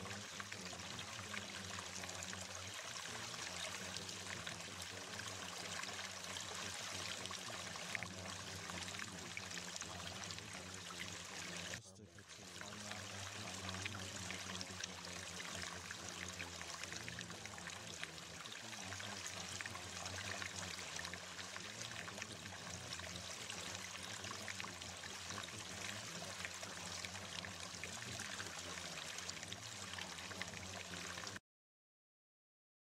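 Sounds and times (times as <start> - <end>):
low steady hum: 0.0 - 31.3
running water: 0.0 - 31.4.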